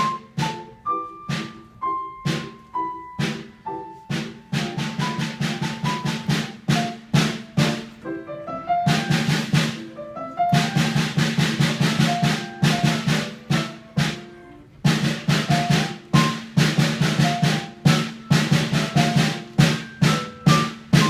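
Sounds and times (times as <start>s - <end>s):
snare drum struck with sticks: 0.0s - 8.0s, 8.6s - 21.0s
piano notes: 0.0s - 21.0s.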